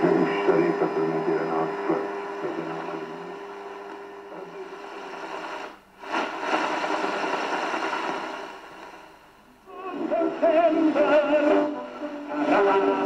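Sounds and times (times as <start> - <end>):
radio music with singing: 0.0 - 13.0
radio tuning noise: 0.0 - 13.0.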